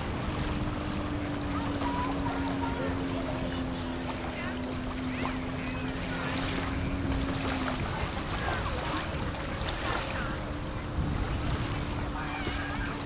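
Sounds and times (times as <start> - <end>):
water: 0.0 - 13.0
wind rushing over the microphone: 0.0 - 13.0.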